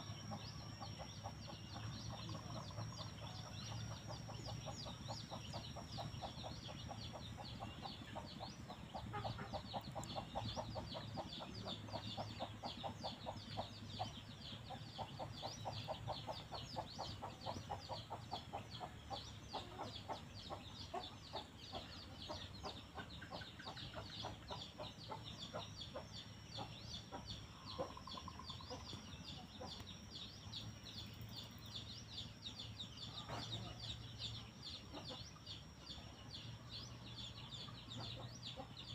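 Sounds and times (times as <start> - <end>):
chickens clucking: 0.0 - 30.2, 32.6 - 36.1, 36.9 - 38.9
constant high-pitched tone: 0.0 - 38.9.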